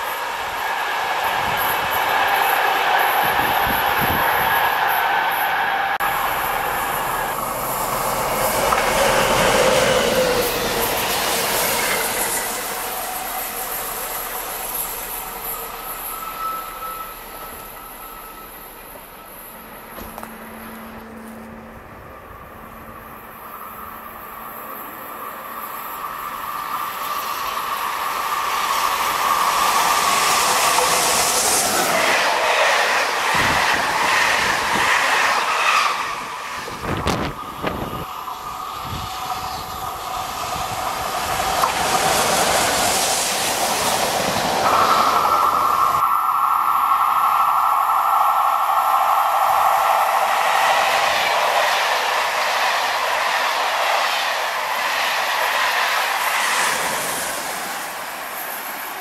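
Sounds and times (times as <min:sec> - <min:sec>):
train wheels squealing on rail: 0:00.0 - 0:59.0.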